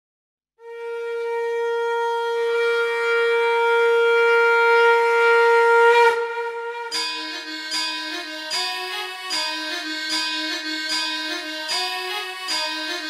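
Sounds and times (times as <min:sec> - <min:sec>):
conch shell blown: 0:00.6 - 0:13.0.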